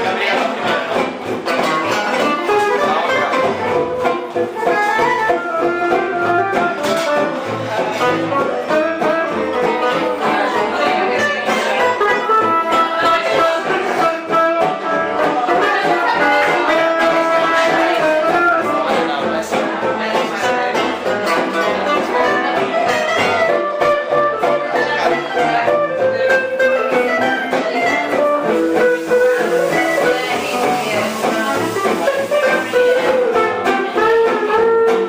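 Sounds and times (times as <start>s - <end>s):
live band playing lively tune: 0.0s - 35.0s.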